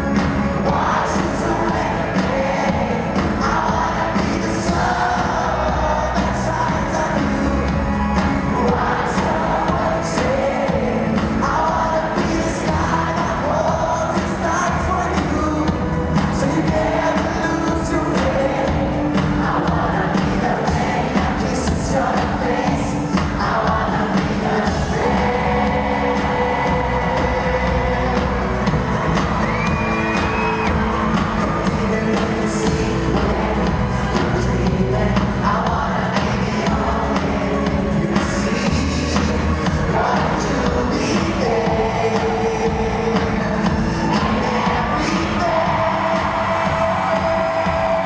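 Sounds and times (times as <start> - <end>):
live band playing: 0.0 - 48.0
male lead singer: 0.0 - 48.0.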